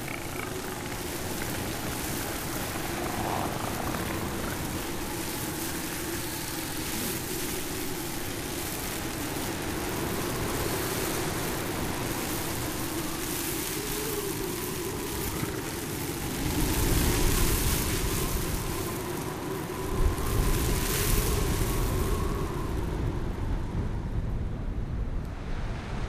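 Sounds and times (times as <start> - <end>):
blizzard wind blowing: 0.0 - 26.0.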